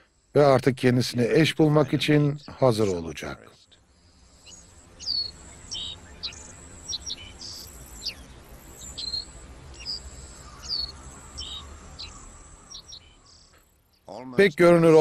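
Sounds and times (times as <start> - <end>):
birds chirping: 0.0 - 15.0
thin steady high tone: 0.0 - 15.0.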